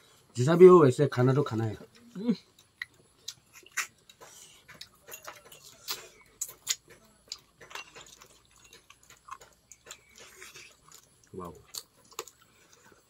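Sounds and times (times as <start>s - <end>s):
chewing clicks: 1.9s - 13.0s.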